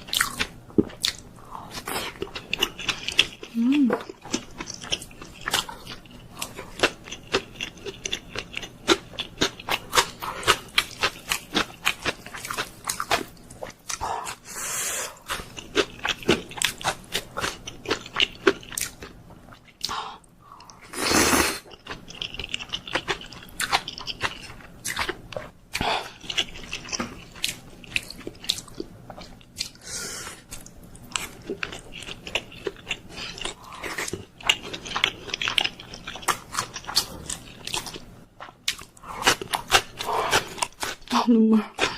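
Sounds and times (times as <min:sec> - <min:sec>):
chewing noodles: 0:00.0 - 0:14.5, 0:15.1 - 0:41.9.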